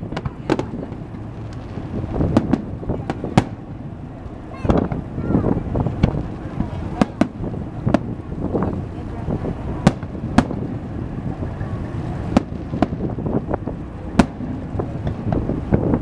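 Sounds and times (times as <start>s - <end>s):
fireworks bangs: 0.0s - 16.0s
fireworks crackles: 0.0s - 16.0s
low background rumble: 0.0s - 16.0s.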